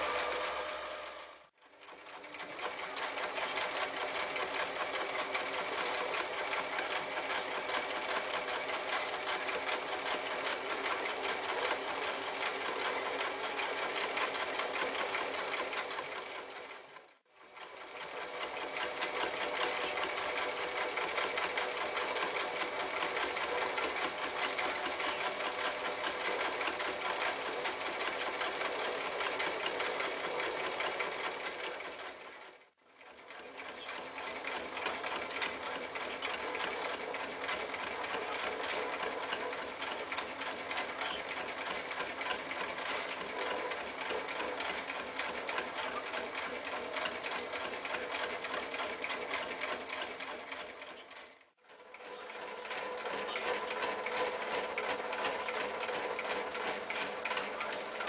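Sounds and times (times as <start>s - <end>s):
electric sewing machine stitching: 0.0s - 58.0s.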